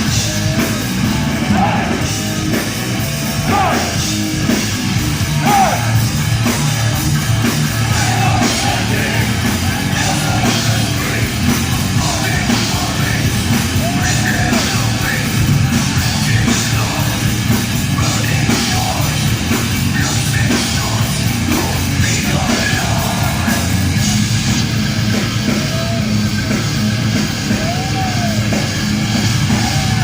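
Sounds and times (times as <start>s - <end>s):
bass guitar: 0.0s - 30.0s
distorted electric guitars: 0.0s - 30.0s
drum kit: 0.0s - 30.0s.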